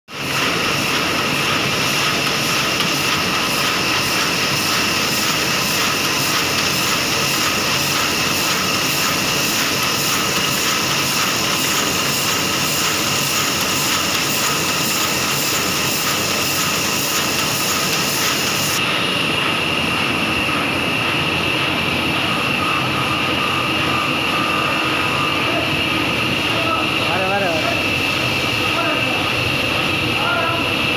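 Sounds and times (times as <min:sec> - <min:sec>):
printing press clatter: 0:00.1 - 0:25.8.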